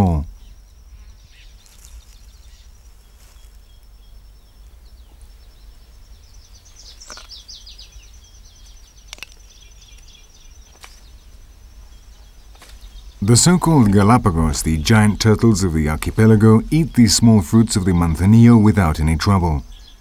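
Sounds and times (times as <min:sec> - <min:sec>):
high-pitched insect trill: 0:00.0 - 0:18.5.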